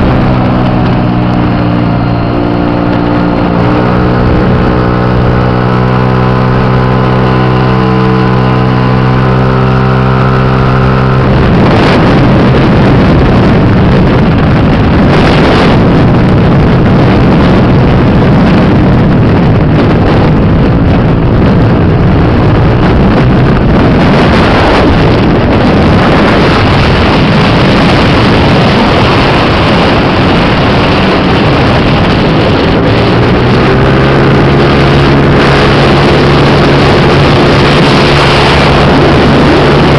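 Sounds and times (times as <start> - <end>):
loud rushing noise: 0.0 - 39.9.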